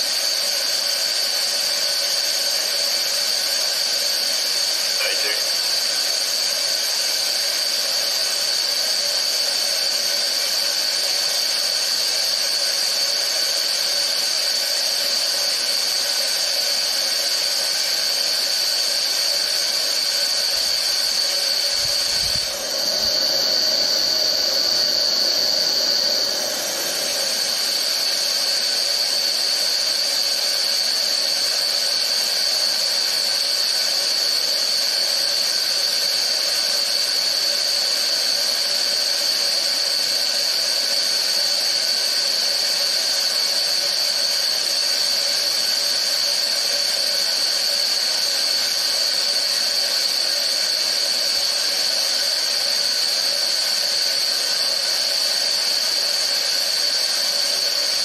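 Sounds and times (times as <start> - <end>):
pressurised gas hissing: 0.0 - 58.0.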